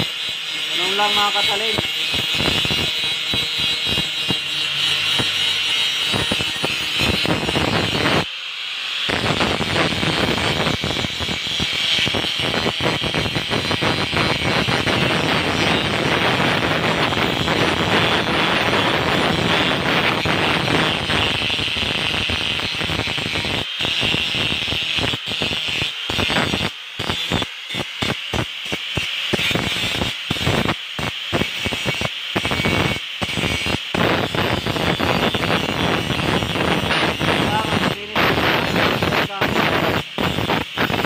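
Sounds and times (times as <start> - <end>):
angle grinder grinding steel: 0.0 - 41.0.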